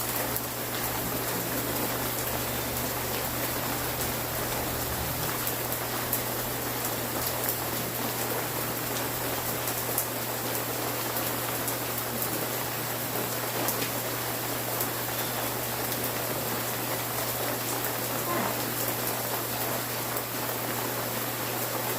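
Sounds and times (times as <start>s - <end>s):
rain falling: 0.0s - 21.9s.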